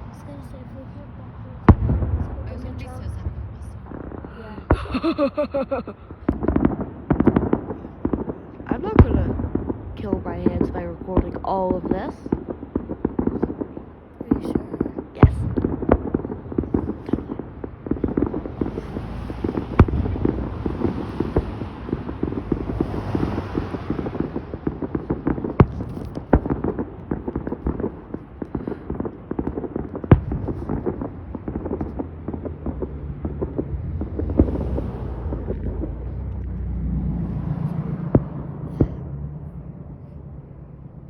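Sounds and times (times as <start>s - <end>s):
low rumble: 1.4s - 41.0s
firework crackling: 1.6s - 39.2s
distant firework bangs: 1.6s - 40.4s.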